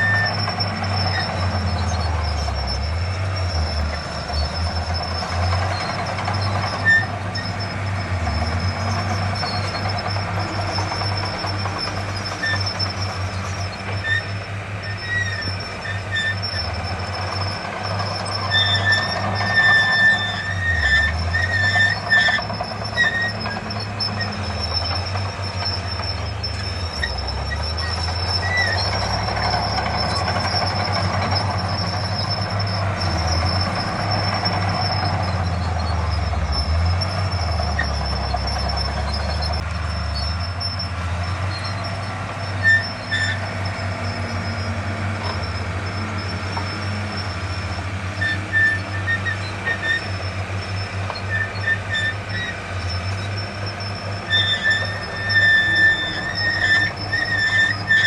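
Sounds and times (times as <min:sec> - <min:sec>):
bulldozer diesel engine rumbling: 0:00.0 - 0:58.0
metallic squeals: 0:00.0 - 0:58.0.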